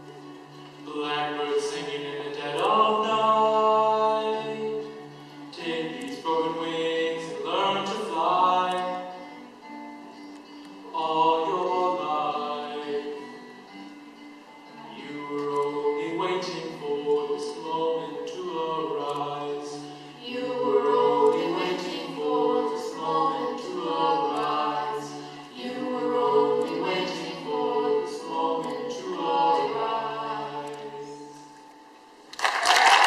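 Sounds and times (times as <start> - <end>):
voices singing a cappella: 0.0 - 9.4, 10.8 - 14.0, 14.7 - 31.6.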